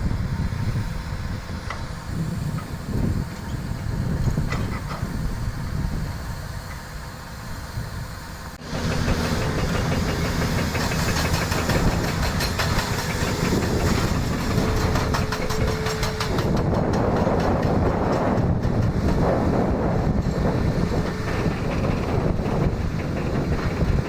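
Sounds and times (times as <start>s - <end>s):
train running with hiss: 0.0s - 24.0s.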